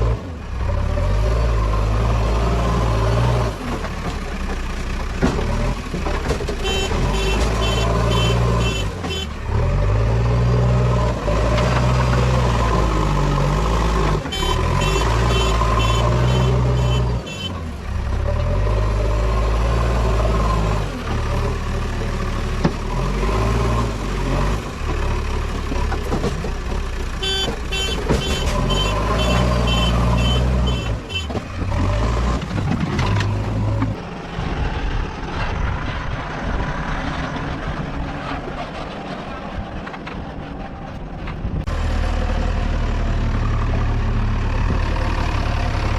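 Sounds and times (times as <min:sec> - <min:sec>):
diesel engine running hard: 0:00.0 - 0:45.9.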